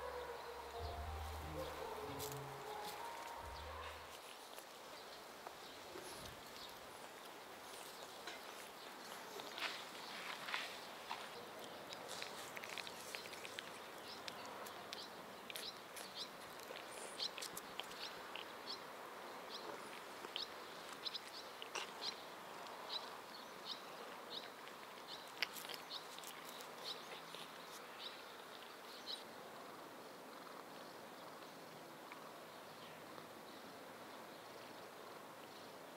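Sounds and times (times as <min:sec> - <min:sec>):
faint steady hiss: 0:00.0 - 0:35.9.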